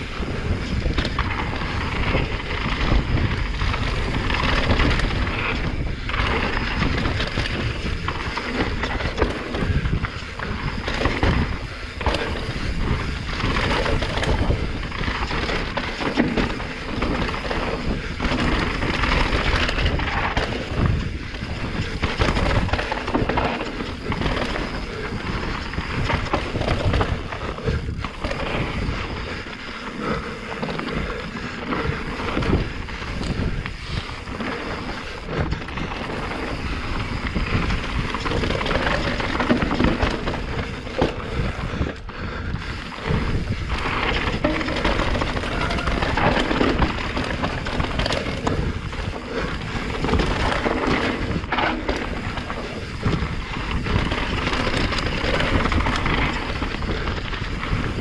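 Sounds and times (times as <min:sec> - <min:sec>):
bike chain and frame clattering: 0:00.0 - 0:58.0
tyres rumbling over dirt: 0:00.0 - 0:58.0
wind buffeting microphone: 0:00.0 - 0:58.0.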